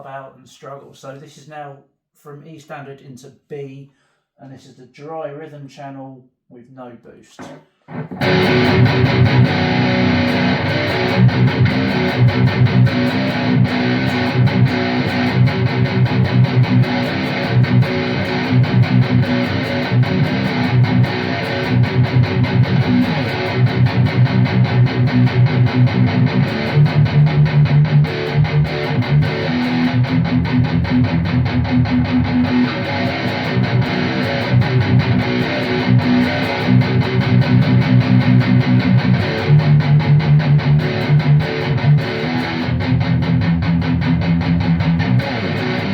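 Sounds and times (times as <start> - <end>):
distorted electric guitar riff: 7.9 - 45.9.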